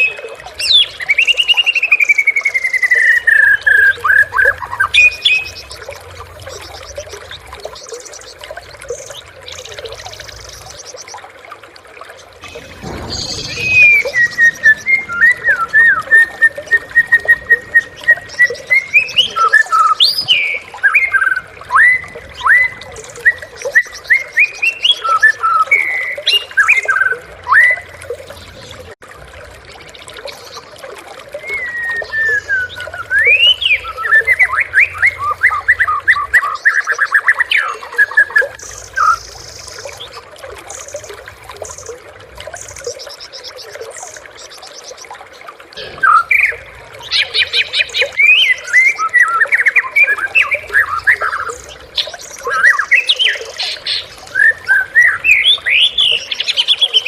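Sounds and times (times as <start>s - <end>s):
bird singing whistles and trills: 0.0s - 11.1s, 12.4s - 28.0s, 31.3s - 41.9s, 45.8s - 57.0s.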